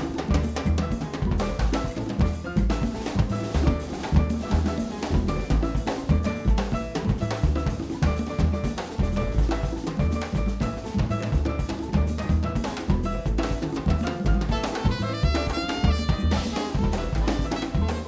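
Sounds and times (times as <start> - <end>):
drum kit with rimshots: 0.0 - 18.0
jazz band playing latin groove: 0.0 - 18.0.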